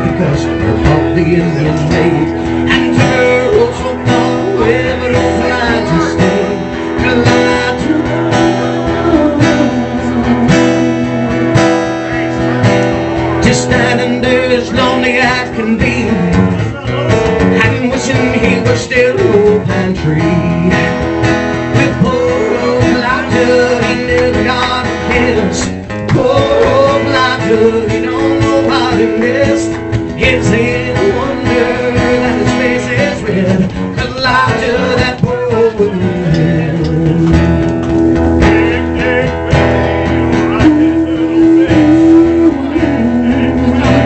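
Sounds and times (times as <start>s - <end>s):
acoustic guitar: 0.0s - 44.0s
country band playing live: 0.0s - 44.0s.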